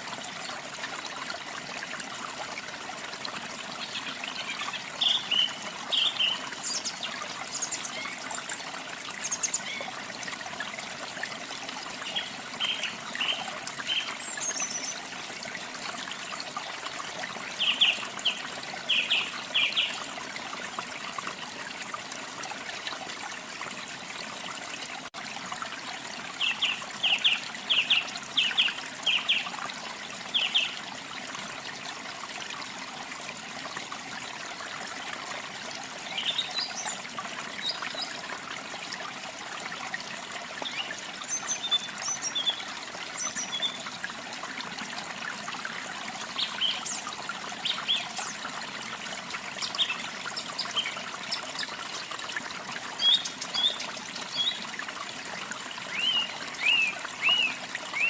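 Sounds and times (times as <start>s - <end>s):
running water rushing: 0.0s - 58.0s.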